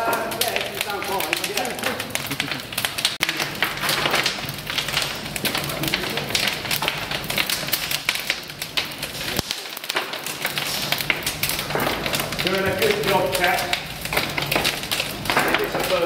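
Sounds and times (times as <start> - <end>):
wood fire crackling: 0.0 - 16.0
wood pieces knocking on fire: 0.0 - 16.0.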